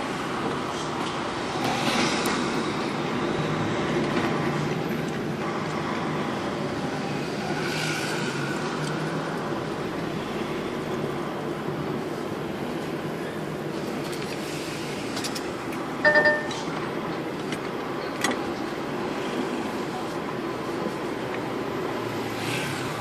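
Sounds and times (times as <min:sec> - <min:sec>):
lorry engine from inside cab: 0:00.0 - 0:23.0
road noise rumble: 0:00.0 - 0:23.0.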